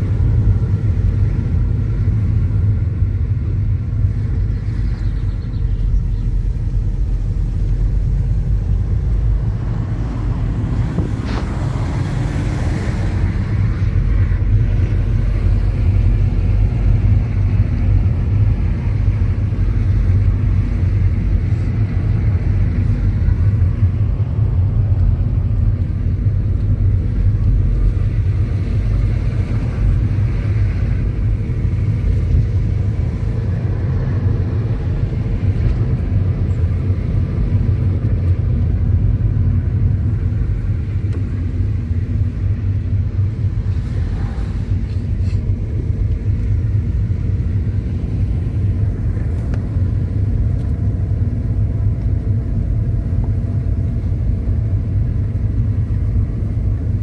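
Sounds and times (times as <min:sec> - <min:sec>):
car driving on road: 0:00.0 - 0:57.0
rush of noise: 0:00.0 - 0:57.0.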